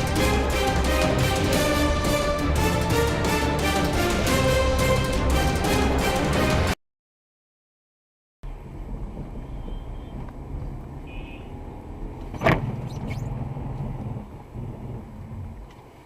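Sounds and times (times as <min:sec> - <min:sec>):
car engine and road noise: 0:00.0 - 0:06.8, 0:08.4 - 0:16.0.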